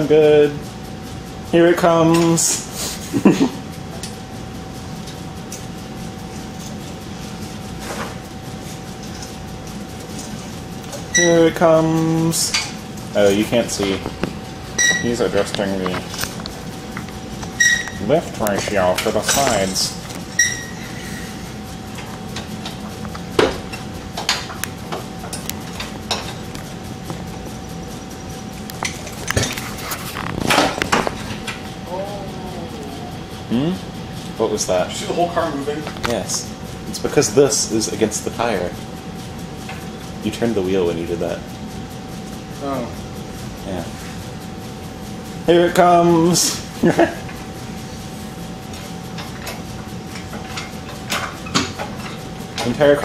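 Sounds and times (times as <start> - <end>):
engine hoist mechanical hum: 0.0 - 53.0.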